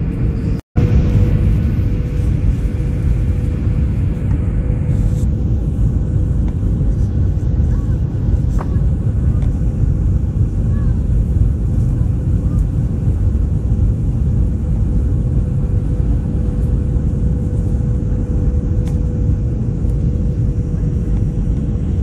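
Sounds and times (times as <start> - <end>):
jet engine and airflow rumble: 0.0 - 22.0
steady mid-pitched hum: 0.0 - 22.0.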